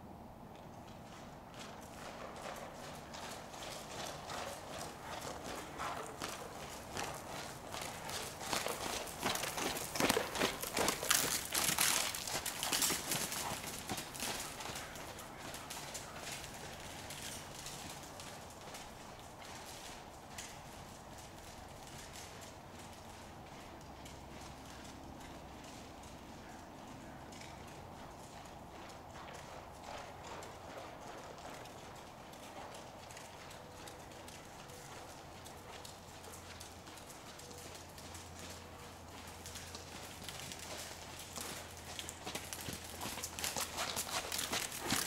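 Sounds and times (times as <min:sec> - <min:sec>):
horse hoofbeats on sand: 0:00.6 - 0:45.0.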